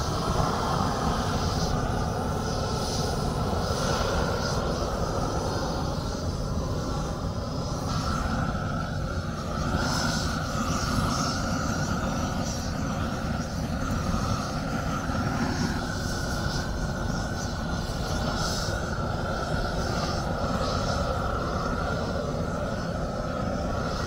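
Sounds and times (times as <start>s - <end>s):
propane torch hissing: 0.0s - 24.0s.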